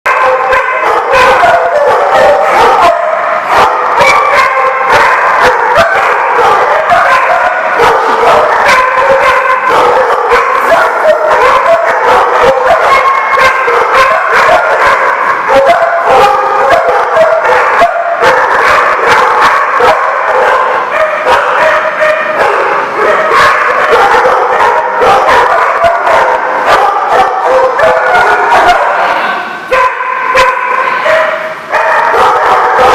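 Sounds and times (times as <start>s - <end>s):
dogs barking: 0.0s - 32.9s.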